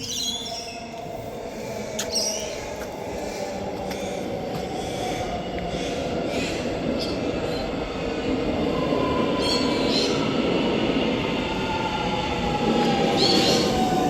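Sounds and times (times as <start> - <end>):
electric train rumble and motor whine: 0.0 - 14.0.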